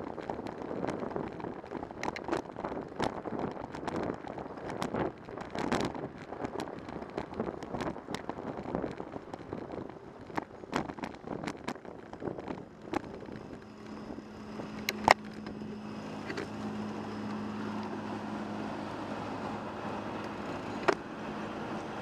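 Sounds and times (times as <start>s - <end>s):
car engines humming: 4.4s - 22.0s.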